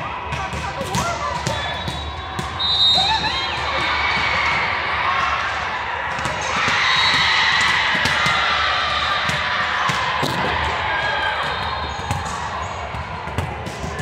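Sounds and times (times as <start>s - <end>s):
hubbub of many voices: 0.0s - 14.0s.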